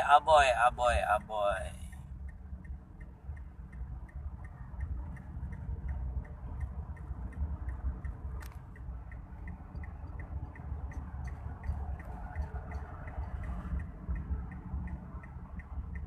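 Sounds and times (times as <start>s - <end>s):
engine and road rumble: 0.0s - 16.0s
indicator relay ticking: 0.0s - 16.0s.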